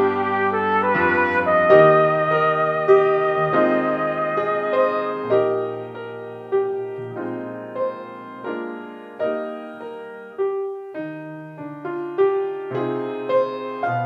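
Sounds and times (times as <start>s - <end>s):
slow gentle piano solo: 0.0s - 14.0s.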